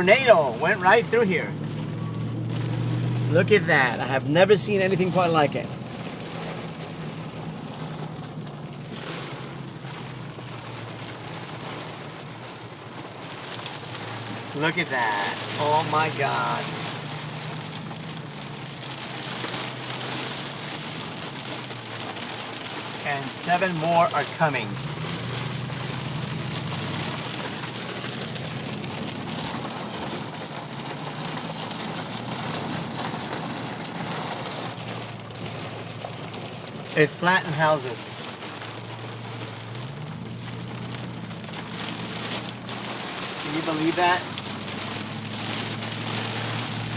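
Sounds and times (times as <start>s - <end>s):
car engine and tyre hum: 0.0s - 46.9s
rain on a car: 0.0s - 46.9s.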